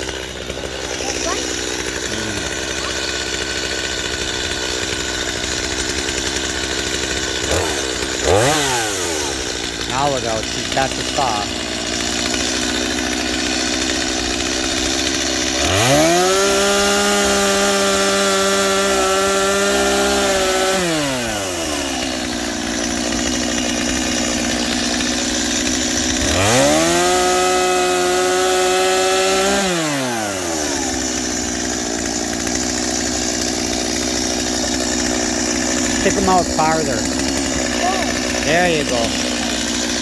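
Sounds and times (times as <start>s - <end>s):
chainsaw cutting log: 0.0s - 40.0s.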